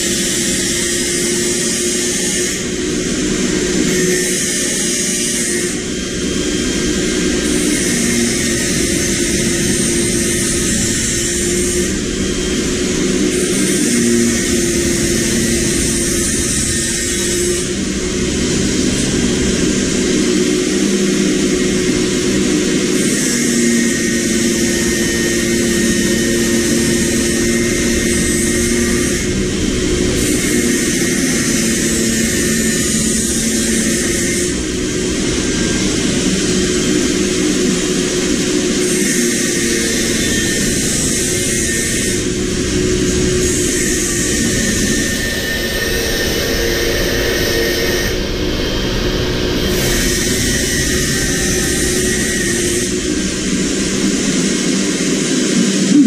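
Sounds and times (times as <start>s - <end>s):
motor running continuously: 0.0s - 56.0s.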